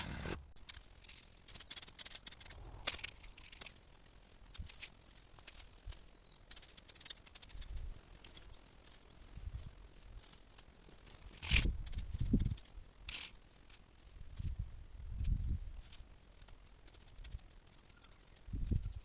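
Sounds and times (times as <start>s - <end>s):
branches rustling and crackling: 0.0s - 19.0s.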